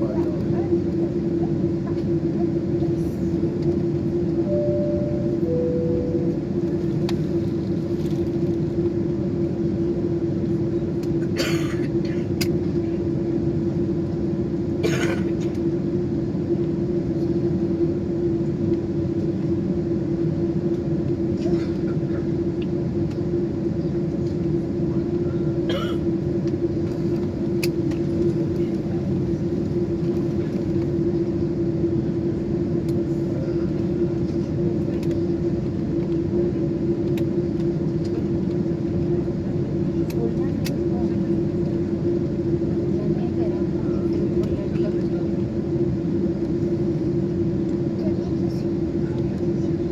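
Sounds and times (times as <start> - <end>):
aircraft cabin drone: 0.0 - 49.9.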